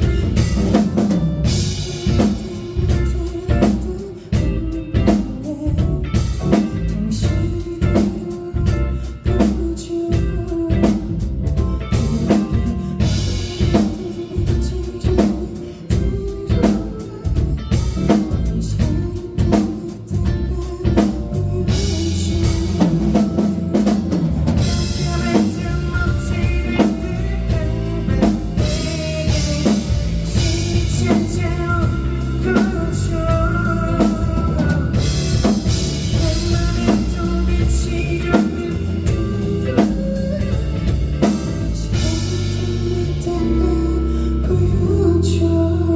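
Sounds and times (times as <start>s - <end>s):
rock band playing: 0.0s - 45.6s
person singing: 0.0s - 45.9s.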